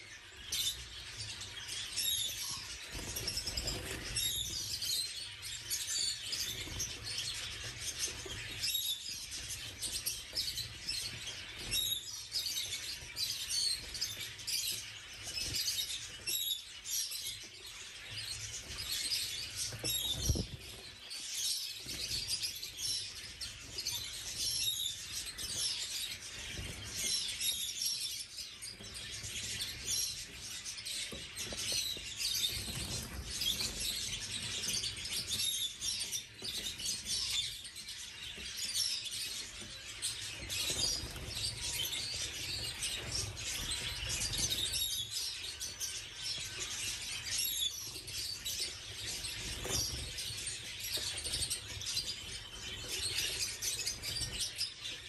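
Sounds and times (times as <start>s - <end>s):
canaries chirping and singing: 0.0s - 55.0s.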